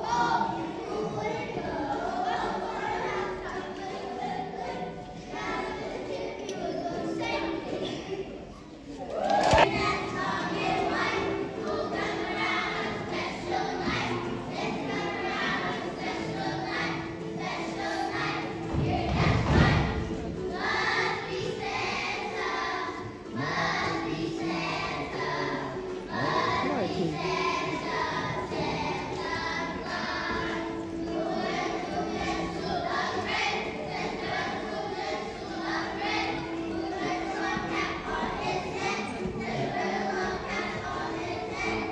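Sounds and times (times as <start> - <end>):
children's choir singing: 0.0 - 41.9
musical accompaniment: 0.0 - 41.9.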